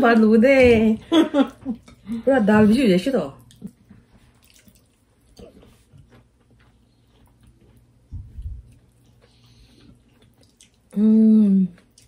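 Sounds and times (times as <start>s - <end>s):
people chewing: 0.7s - 12.0s.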